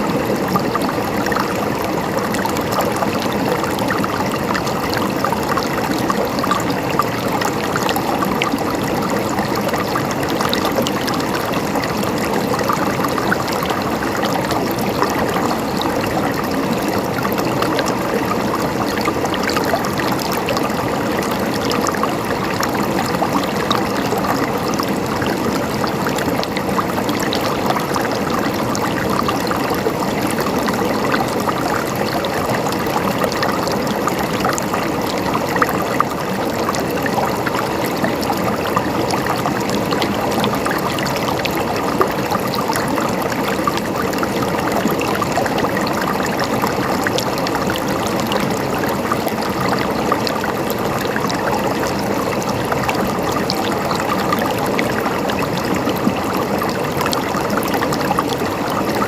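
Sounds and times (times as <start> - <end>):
river water splashing over rocks: 0.0 - 59.0.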